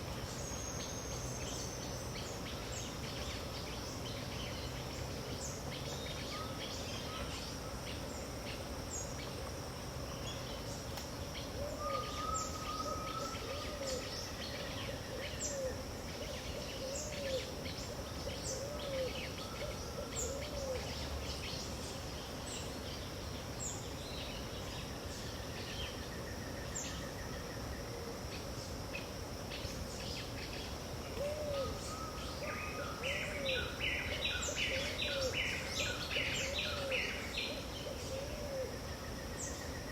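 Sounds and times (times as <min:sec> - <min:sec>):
high insect hum: 0:00.0 - 0:39.9.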